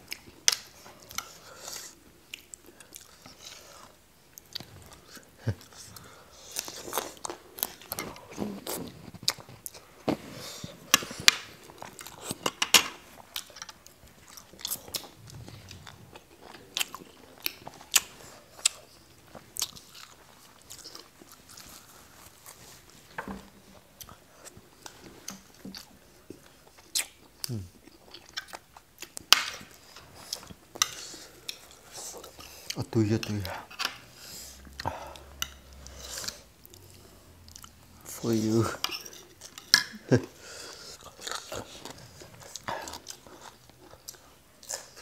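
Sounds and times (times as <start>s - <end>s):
people chewing food: 0.0s - 45.0s.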